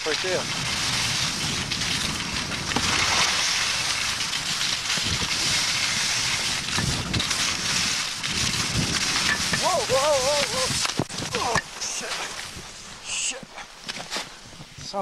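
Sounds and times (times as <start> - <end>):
wind on microphone: 0.0 - 13.0, 14.4 - 15.0
skis sliding over snow: 0.0 - 15.0.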